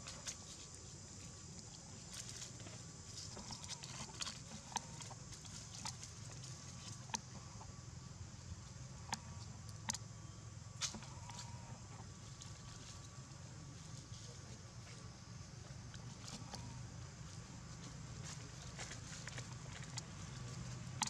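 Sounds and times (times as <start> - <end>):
faint background hum: 0.0 - 21.0.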